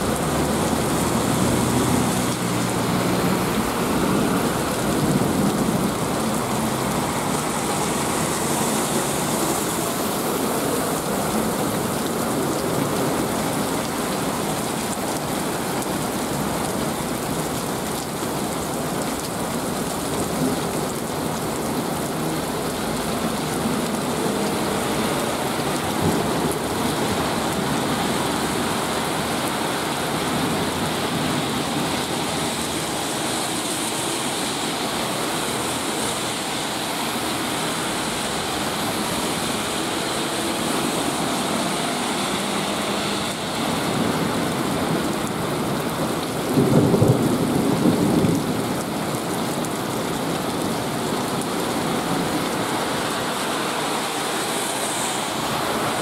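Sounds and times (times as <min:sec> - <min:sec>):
car tyres swishing through water: 0:00.0 - 0:56.0
heavy rain pouring: 0:00.0 - 0:56.0.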